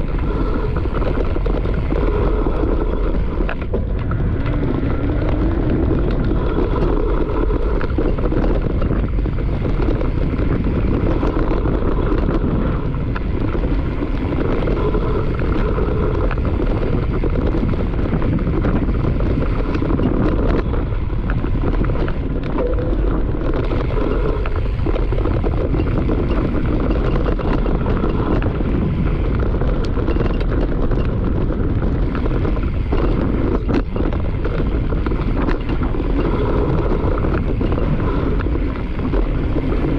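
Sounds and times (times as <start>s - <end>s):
bike rattling over rough ground: 0.0s - 39.9s
wind buffeting microphone: 0.0s - 39.9s.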